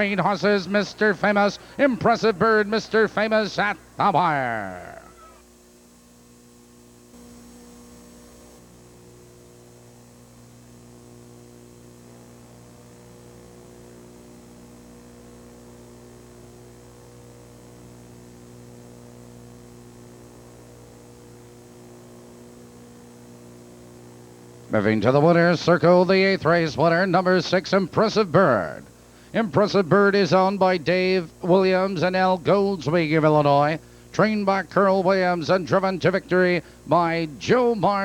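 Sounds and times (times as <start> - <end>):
electrical mains hum: 0.0 - 38.0
faint hiss: 0.0 - 38.0.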